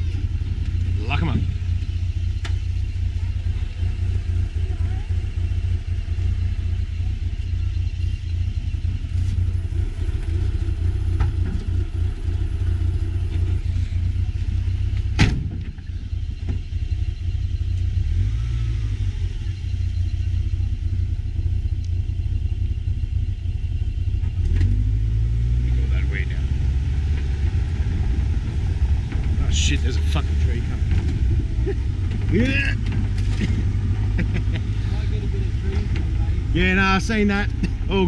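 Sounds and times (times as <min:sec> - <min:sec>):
vehicle driving on rough track: 0:00.0 - 0:38.0.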